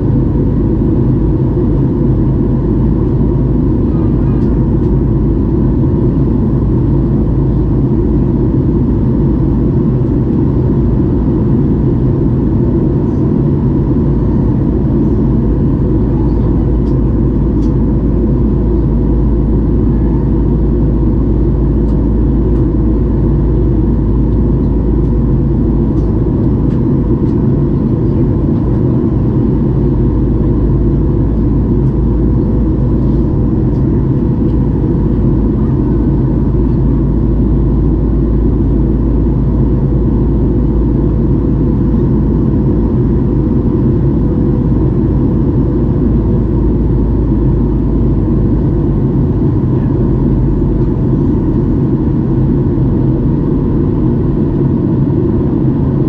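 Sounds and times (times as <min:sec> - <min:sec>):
aircraft cabin engine rumble: 0:00.0 - 0:56.0
faint steady hum: 0:00.0 - 0:56.0.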